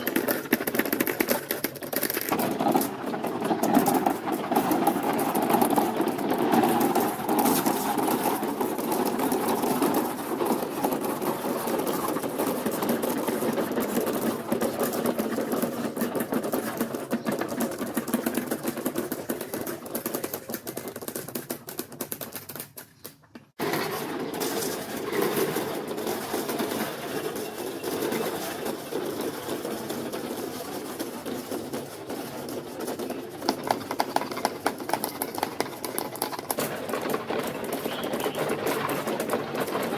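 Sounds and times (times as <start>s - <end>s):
marbles rolling on plastic track: 0.0s - 22.8s, 23.6s - 39.9s.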